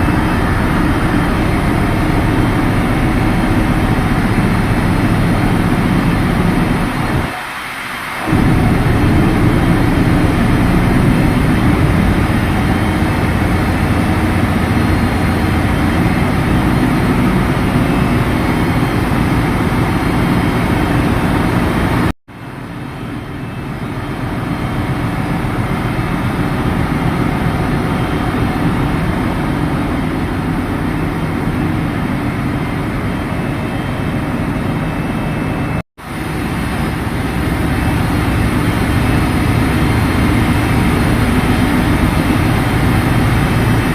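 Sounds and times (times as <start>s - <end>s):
engine room machinery drone: 0.0s - 43.9s.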